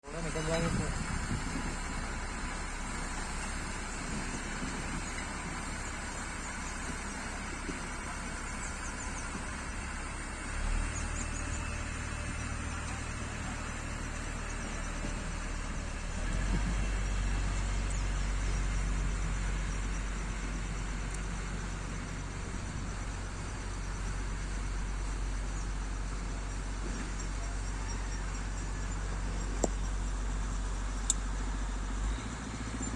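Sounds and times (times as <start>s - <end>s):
diesel engine humming: 0.0s - 32.9s.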